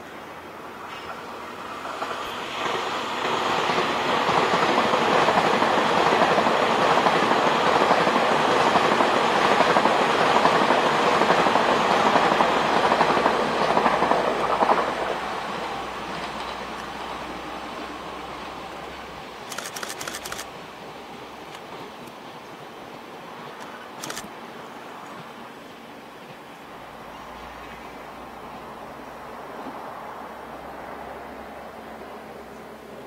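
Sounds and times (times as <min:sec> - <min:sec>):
train wheels rushing on rails: 0:00.0 - 0:33.0.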